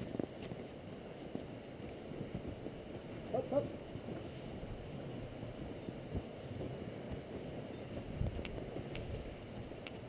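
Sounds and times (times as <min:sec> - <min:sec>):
sled runners scraping snow: 0:00.0 - 0:10.0
soft sled thumps: 0:00.0 - 0:10.0.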